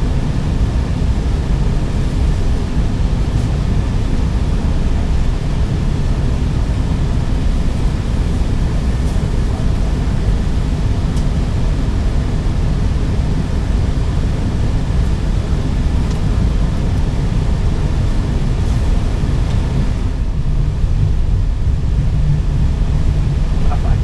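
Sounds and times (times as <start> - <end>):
low cockpit rumble: 0.0 - 24.0.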